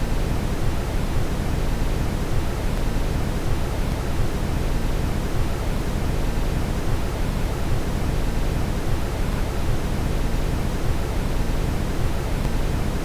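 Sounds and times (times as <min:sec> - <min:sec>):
brown noise hiss: 0:00.0 - 0:13.0.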